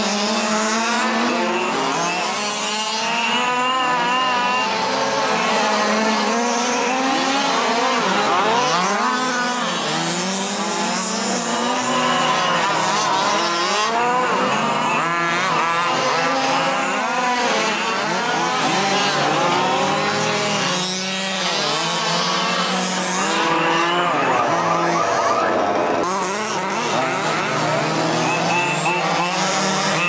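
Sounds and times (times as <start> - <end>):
small two-stroke engines revving: 0.0 - 30.0.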